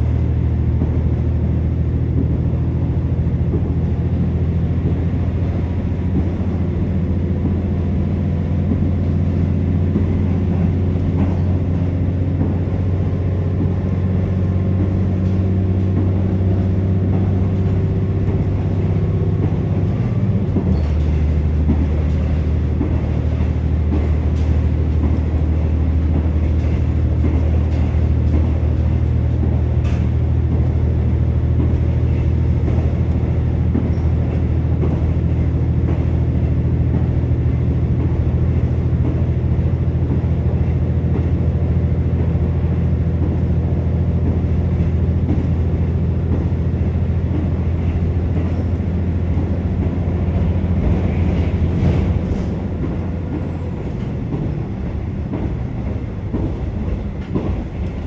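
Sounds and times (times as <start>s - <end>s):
diesel railcar engine running: 0.0s - 58.0s
train running noise: 0.0s - 58.0s.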